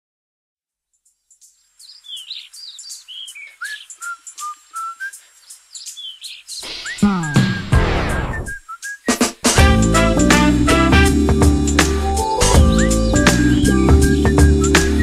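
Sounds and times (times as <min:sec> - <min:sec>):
bird chirping: 0:01.0 - 0:10.1, 0:10.7 - 0:15.0.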